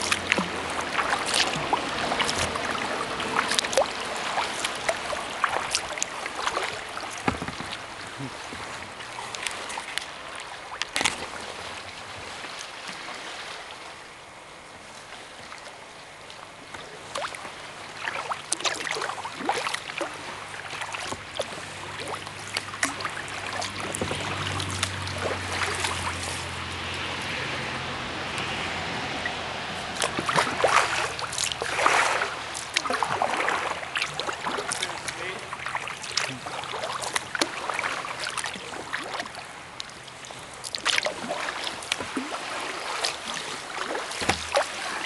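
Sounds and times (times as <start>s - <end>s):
water dripping: 0.0s - 11.2s, 18.0s - 27.4s, 29.2s - 45.0s
paddle strokes splashing: 0.0s - 45.0s
running water: 0.0s - 45.0s.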